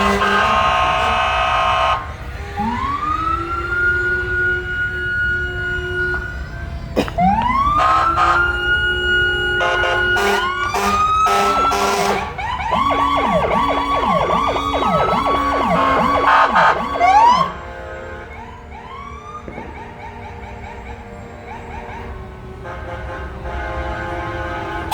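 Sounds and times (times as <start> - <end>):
distant siren sweeps: 0.0 - 22.6
fire engine sirens: 0.0 - 24.9
siren horn blasts: 0.0 - 24.9.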